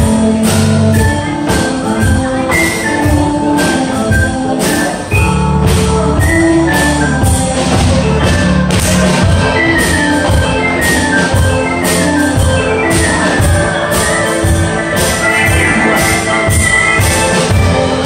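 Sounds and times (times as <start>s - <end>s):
band playing dance tune: 0.0s - 18.0s.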